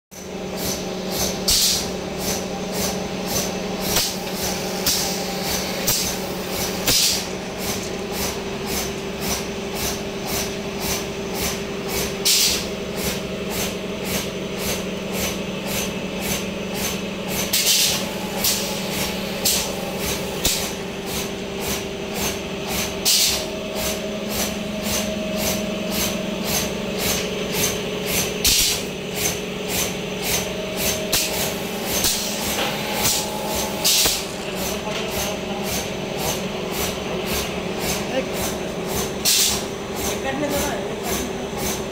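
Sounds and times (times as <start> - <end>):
machine motor hum: 0.2 - 41.9.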